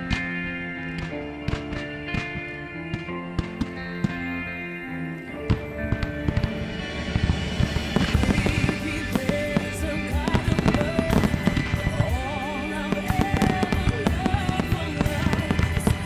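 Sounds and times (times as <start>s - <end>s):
music playing: 0.0s - 16.0s
fireworks bangs and crackles: 1.0s - 4.4s, 5.4s - 16.0s.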